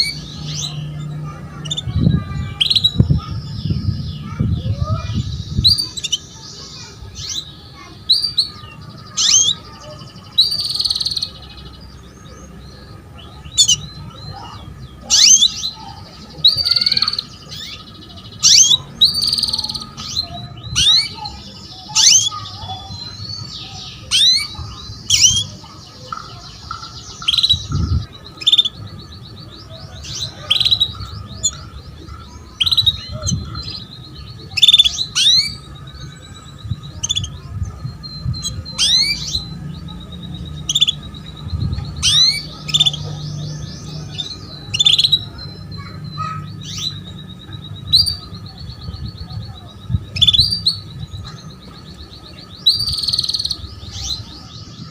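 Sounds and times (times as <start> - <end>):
canary chirping: 0.0 - 54.9.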